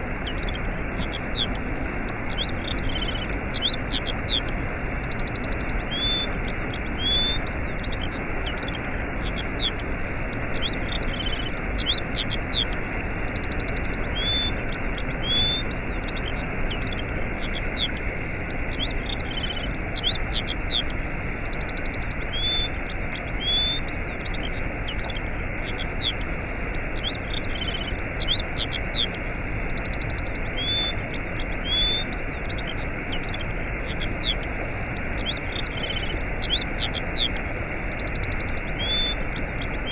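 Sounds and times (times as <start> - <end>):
birds chirping and trilling: 0.0 - 39.9
waterfall rushing: 0.1 - 39.9.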